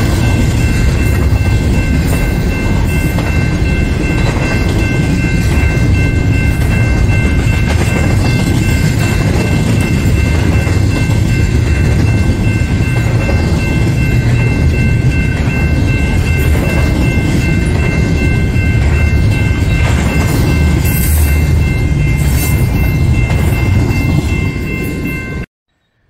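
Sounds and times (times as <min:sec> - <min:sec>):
freight train wheels rumbling: 0:00.0 - 0:25.5
high ringing tones: 0:00.0 - 0:26.0.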